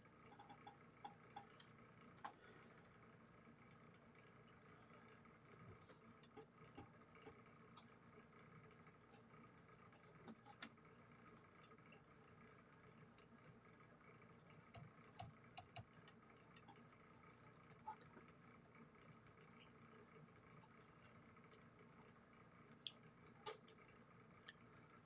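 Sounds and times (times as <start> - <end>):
faint room hum: 0.0 - 25.0.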